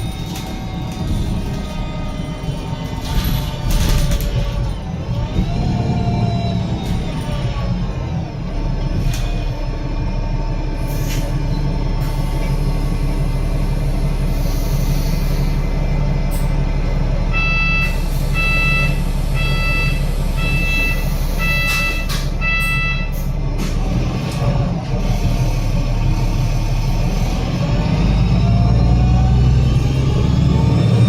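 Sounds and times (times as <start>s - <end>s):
bus diesel engine running: 0.0s - 31.0s.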